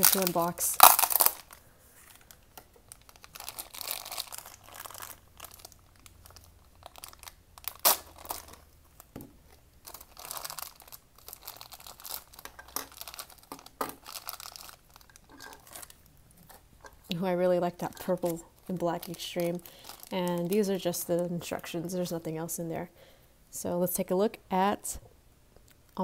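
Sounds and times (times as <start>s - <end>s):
plastic bags crinkling: 0.0s - 21.7s.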